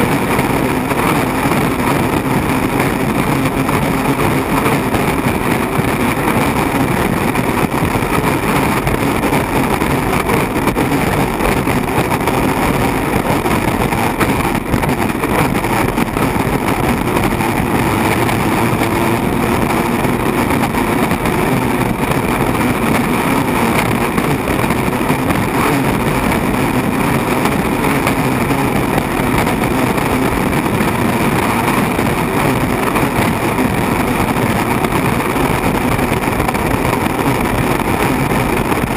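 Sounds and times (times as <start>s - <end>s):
rushing wind and water: 0.0s - 38.9s
turbine engine roaring: 0.0s - 38.9s.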